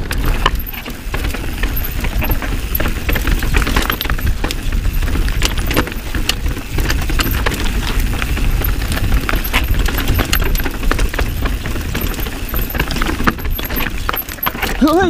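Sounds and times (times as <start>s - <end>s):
bike chain and frame rattling: 0.0s - 15.0s
tyres and wind rumbling: 0.0s - 15.0s.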